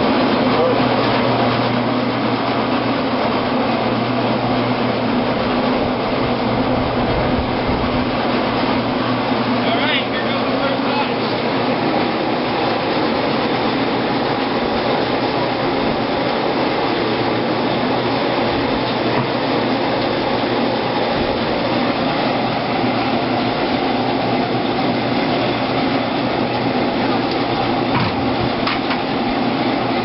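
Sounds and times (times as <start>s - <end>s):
grape crusher machine running: 0.0s - 30.0s.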